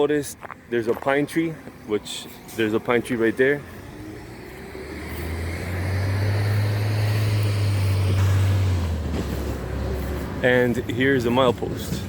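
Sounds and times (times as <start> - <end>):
vehicle passing by: 2.3 - 12.0.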